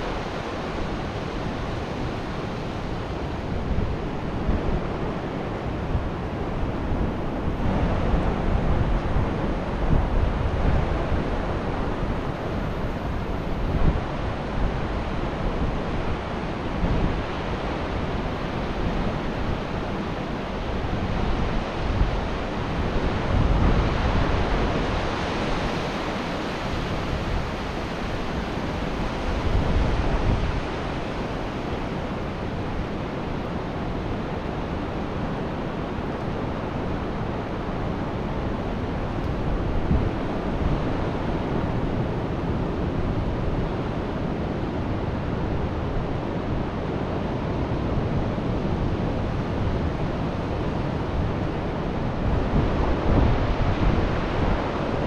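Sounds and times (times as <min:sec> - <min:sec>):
ocean surf washing ashore: 0:00.0 - 0:55.0
wind on microphone: 0:00.0 - 0:55.0.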